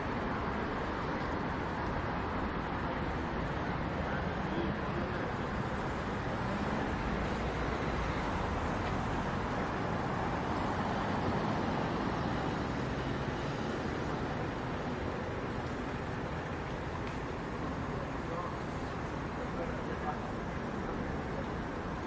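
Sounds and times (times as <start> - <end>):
traffic rushing past: 0.0 - 22.0.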